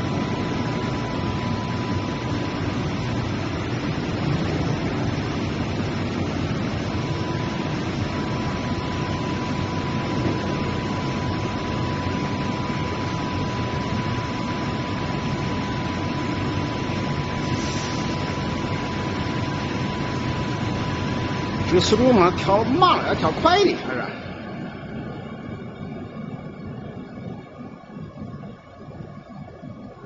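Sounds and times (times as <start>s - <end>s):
high whine: 0.0s - 30.0s
machine hum and hiss: 0.0s - 30.0s.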